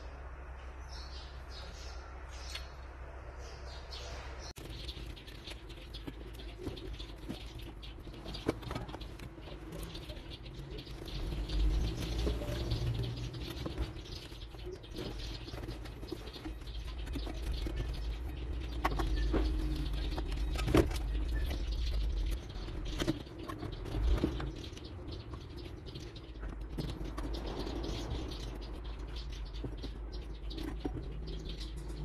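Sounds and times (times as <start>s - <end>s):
hands rustling among wiring: 4.6s - 32.0s.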